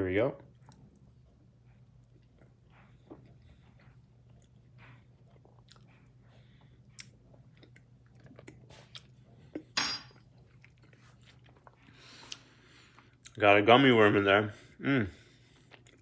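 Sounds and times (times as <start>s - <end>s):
low steady hum: 0.0s - 16.0s
mouth chewing smacks and crunches: 0.5s - 9.7s, 10.3s - 13.4s, 15.5s - 16.0s.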